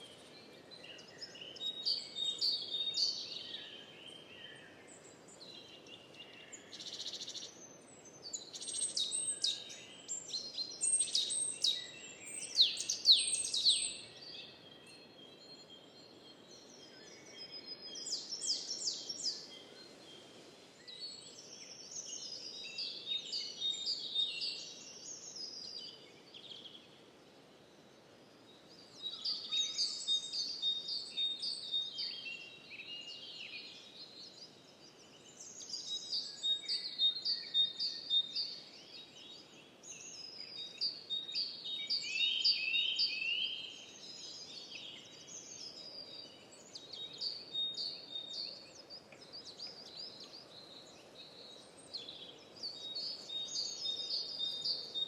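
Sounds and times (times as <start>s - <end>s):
soft low background noise: 0.0s - 55.0s
songbirds singing and chirping: 0.0s - 55.0s.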